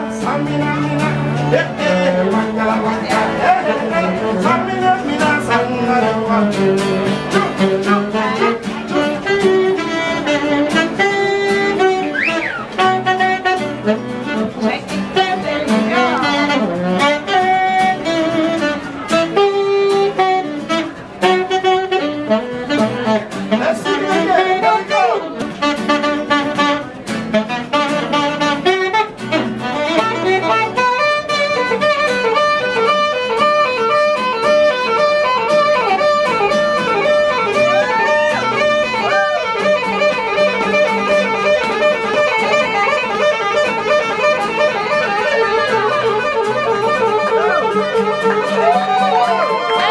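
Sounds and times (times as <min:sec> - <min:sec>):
guitar: 0:00.0 - 0:49.9
live band playing: 0:00.0 - 0:49.9
saxophone: 0:00.0 - 0:49.9.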